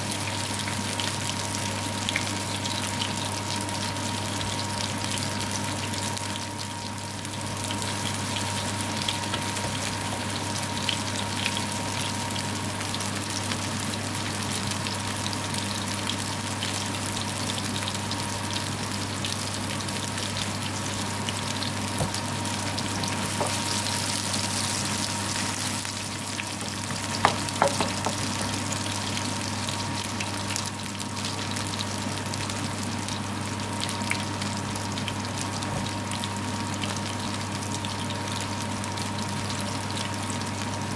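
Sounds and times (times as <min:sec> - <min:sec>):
meat patties sizzling in oil: 0:00.0 - 0:40.9.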